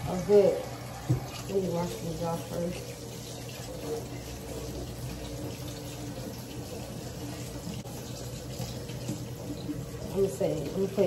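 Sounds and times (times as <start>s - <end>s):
faucet running into a metal sink: 0.0s - 11.0s.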